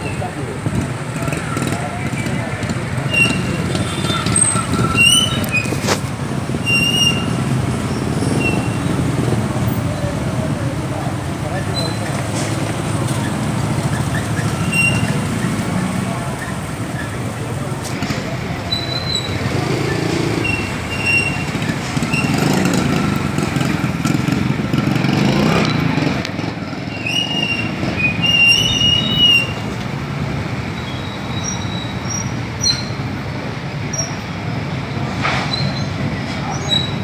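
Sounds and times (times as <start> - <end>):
motorcycle engines idling: 0.0 - 37.0.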